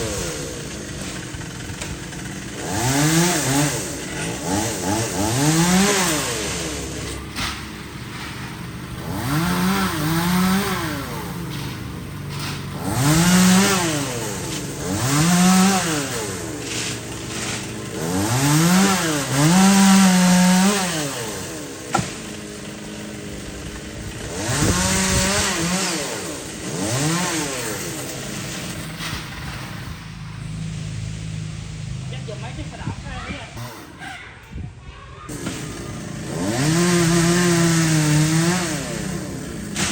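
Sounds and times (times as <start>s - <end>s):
chainsaw revving while cutting: 0.0s - 30.0s, 33.6s - 34.0s, 35.3s - 39.9s.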